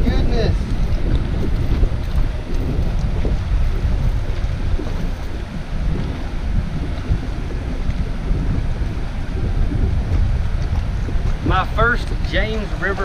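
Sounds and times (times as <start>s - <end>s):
choppy water: 0.0s - 13.0s
wind buffeting microphone: 0.0s - 13.0s.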